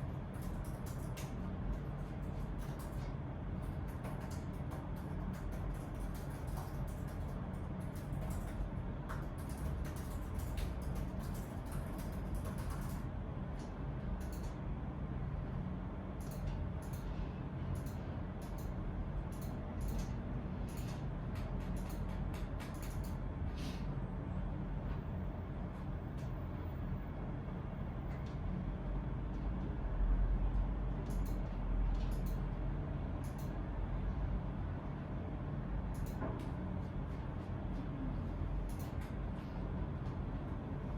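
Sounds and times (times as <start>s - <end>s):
low room rumble: 0.0s - 40.9s.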